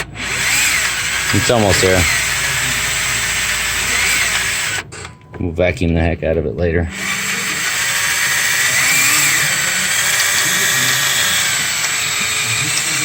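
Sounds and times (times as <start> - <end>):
power drill running under load: 0.0 - 4.9, 6.9 - 13.0.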